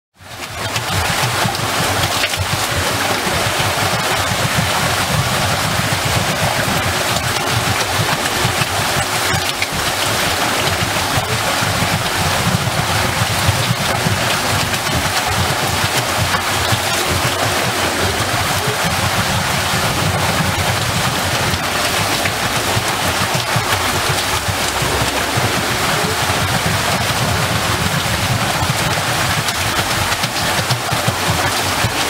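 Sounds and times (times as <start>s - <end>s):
low churning rumble: 0.2s - 32.0s
water splashing over water wheel: 0.2s - 32.0s.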